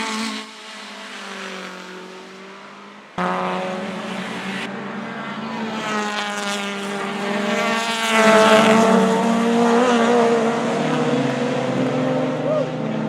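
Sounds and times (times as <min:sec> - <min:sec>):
racing car passing: 0:00.0 - 0:13.0.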